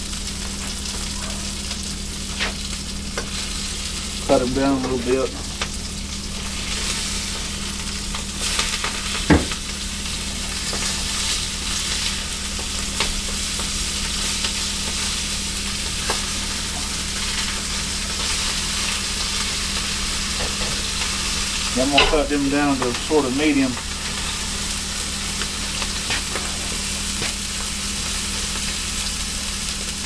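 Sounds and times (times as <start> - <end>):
patties sizzling in a skillet: 0.0 - 30.0
steady low hum: 1.6 - 14.3, 15.6 - 28.9.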